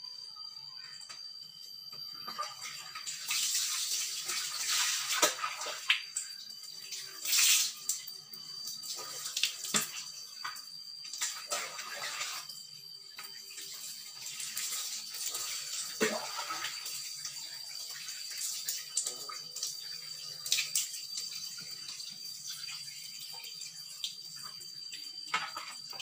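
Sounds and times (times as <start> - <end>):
water splashing in a basin: 2.2 - 26.0.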